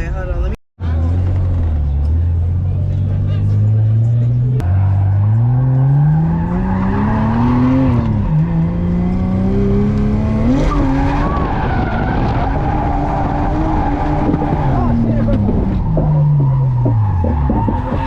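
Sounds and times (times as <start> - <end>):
car engine revving hard: 3.4 - 18.0
tires skidding: 3.4 - 18.0.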